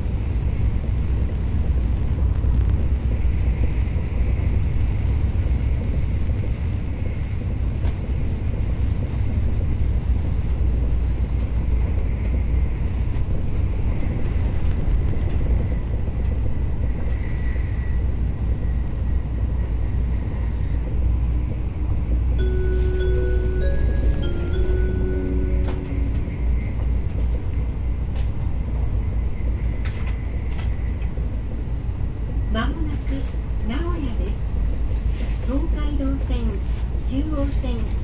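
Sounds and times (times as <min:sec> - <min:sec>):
train cabin rumble: 0:00.0 - 0:38.0.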